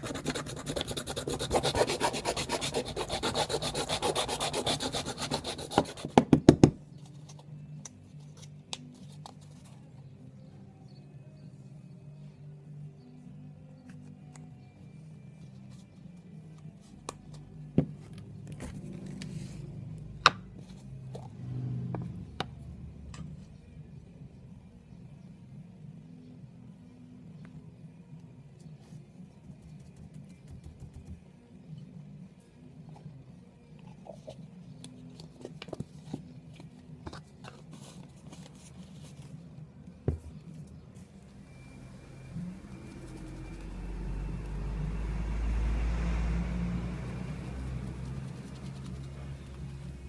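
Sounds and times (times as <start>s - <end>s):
low steady hum: 6.8s - 50.0s.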